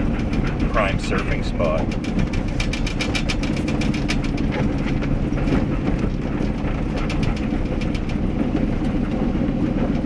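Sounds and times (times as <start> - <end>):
engine and road drone: 0.0 - 10.0
rattling and clicking: 0.0 - 10.0.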